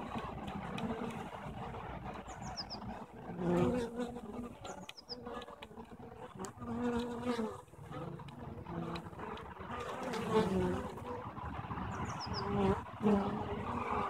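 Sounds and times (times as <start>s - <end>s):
bee flying past humming: 0.0s - 14.0s
honeybees buzzing: 0.0s - 14.0s.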